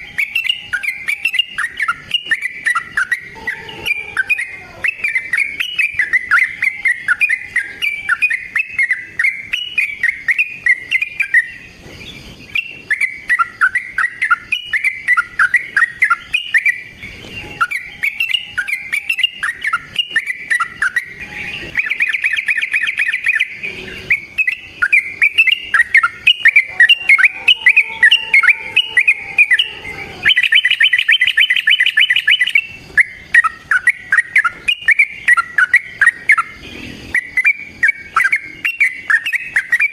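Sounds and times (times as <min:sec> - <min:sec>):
bird singing bubbly notes: 0:00.0 - 0:39.9
bird trilling: 0:00.0 - 0:39.9.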